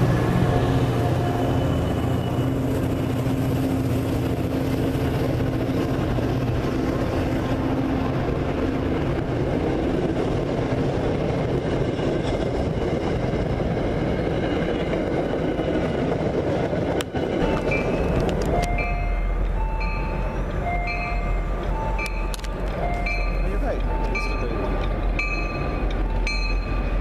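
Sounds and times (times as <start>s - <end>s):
train wheels clattering on rails: 1.5s - 27.0s.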